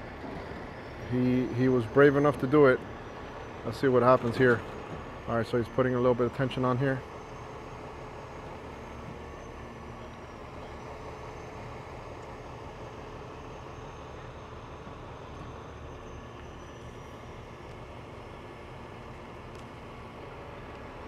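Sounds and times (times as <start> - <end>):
tow truck engine hum: 0.0 - 21.0.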